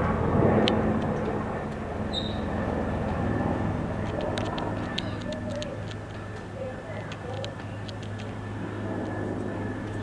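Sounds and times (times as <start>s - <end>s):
helicopter rotor and engine: 0.0s - 10.0s.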